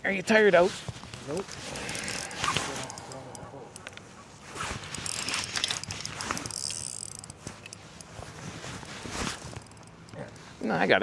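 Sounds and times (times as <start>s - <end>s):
fishing reel ratcheting: 1.1s - 4.0s, 4.6s - 10.5s.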